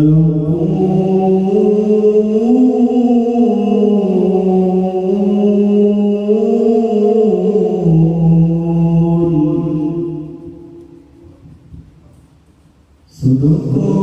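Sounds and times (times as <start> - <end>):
man reciting melismatic chant with echo: 0.0 - 11.5, 13.0 - 14.0.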